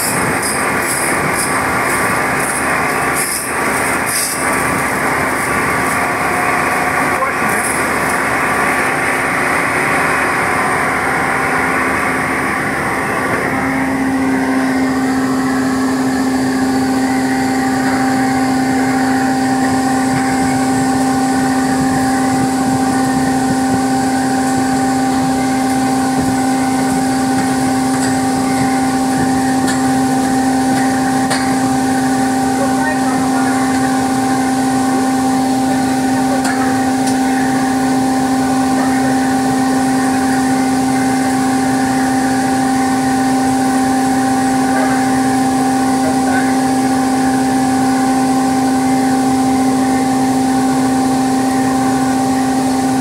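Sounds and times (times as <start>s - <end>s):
air conditioning compressor hum: 0.0s - 53.0s
engine running: 0.0s - 53.0s.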